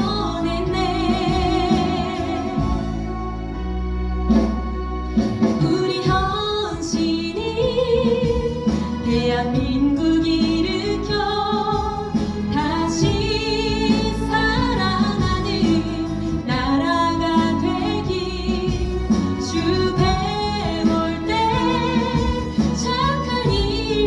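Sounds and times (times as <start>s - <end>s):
woman singing with vibrato: 0.0s - 3.0s, 5.6s - 24.0s
instrumental accompaniment: 0.0s - 24.0s.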